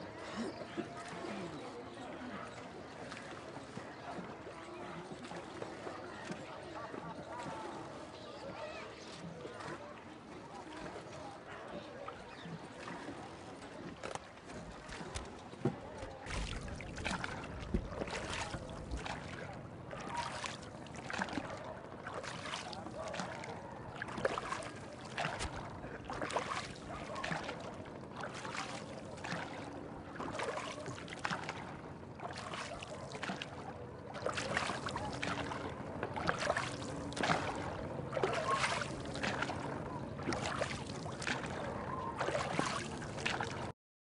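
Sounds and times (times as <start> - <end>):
water washing along hull: 0.0 - 43.7
oar splashing into water: 0.3 - 7.7, 12.1 - 43.7.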